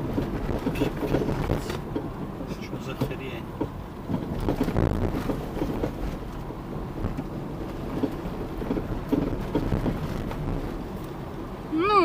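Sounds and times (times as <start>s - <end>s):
knocks from car: 0.0s - 10.8s
road rumble inside car: 0.0s - 12.0s.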